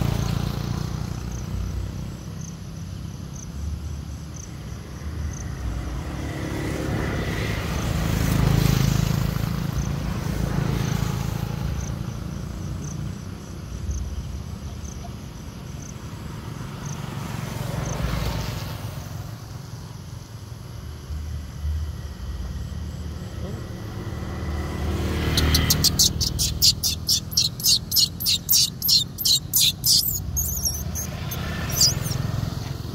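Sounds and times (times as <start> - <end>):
low traffic rumble: 0.0 - 32.9
vehicles passing: 0.0 - 32.9.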